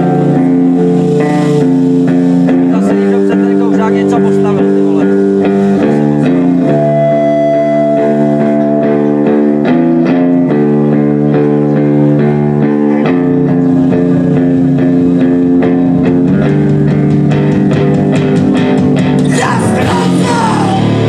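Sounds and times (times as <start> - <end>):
live guitar band music: 0.0 - 21.0.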